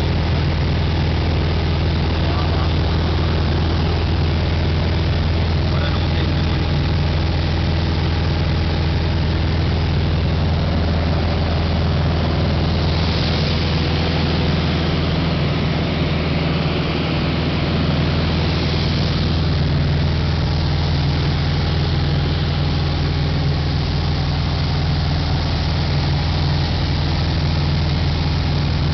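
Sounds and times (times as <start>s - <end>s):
aircraft engine droning in cockpit: 0.0s - 28.9s.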